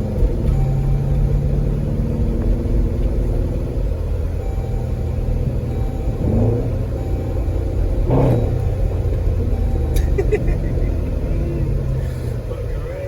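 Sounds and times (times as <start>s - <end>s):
car exhaust rumble: 0.0s - 13.0s
engine revving: 0.0s - 13.0s.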